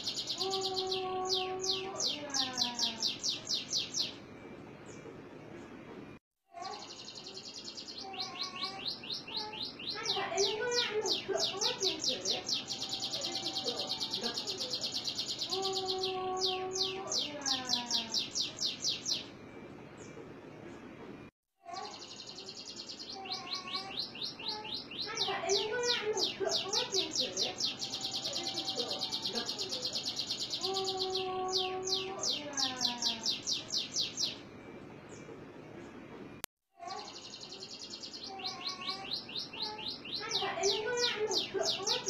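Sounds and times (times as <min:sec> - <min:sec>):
canary trilling: 0:00.0 - 0:04.2, 0:06.6 - 0:19.3, 0:21.6 - 0:34.5, 0:36.8 - 0:42.0.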